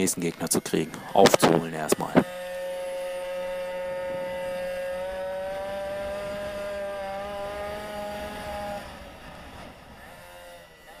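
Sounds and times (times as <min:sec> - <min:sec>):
two-stroke engine at high revs: 0:00.0 - 0:11.0.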